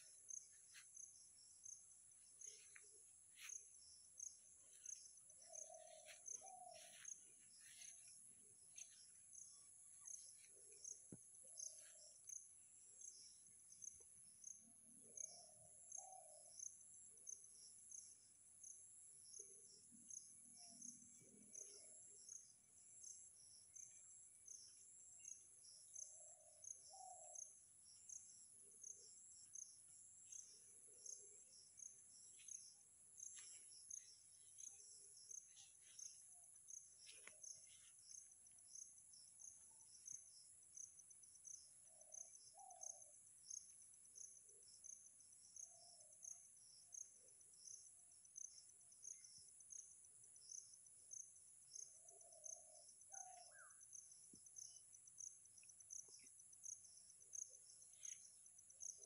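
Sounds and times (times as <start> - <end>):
insect drone: 0.0 - 59.0
pulsing insect chirp: 0.0 - 59.0.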